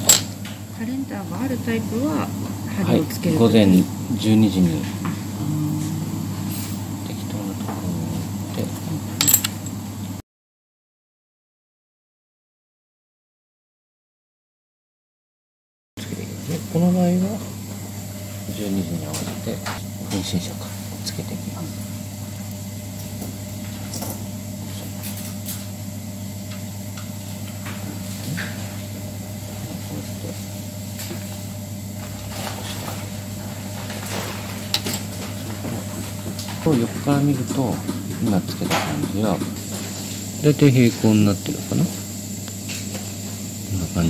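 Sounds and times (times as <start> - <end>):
steady low hum: 0.0 - 10.2, 16.0 - 44.0.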